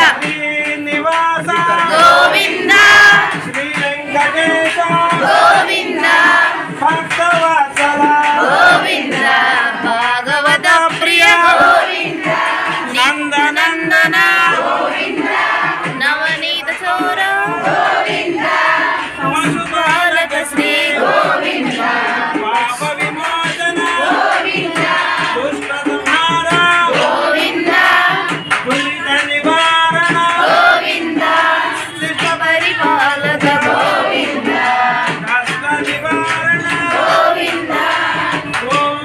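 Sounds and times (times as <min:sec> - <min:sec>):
group of voices singing: 0:00.0 - 0:39.0.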